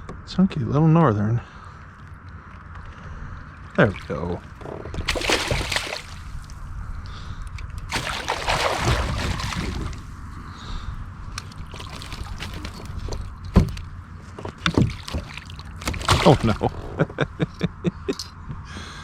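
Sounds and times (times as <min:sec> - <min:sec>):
water splashing and sloshing: 0:01.7 - 0:17.4.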